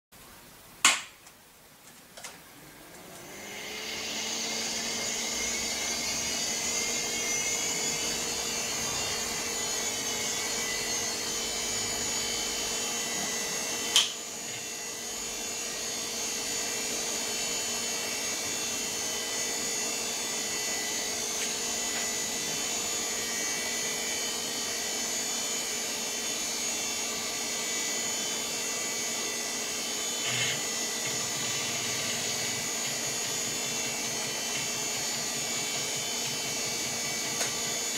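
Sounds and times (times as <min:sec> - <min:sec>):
computer fans whirring: 0:01.8 - 0:37.9.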